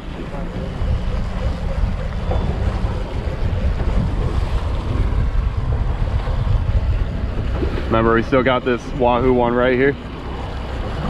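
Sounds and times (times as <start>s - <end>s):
outboard motor running: 0.0s - 11.0s
rushing water of boat wake: 0.0s - 11.0s
wind buffeting microphone: 0.0s - 11.0s.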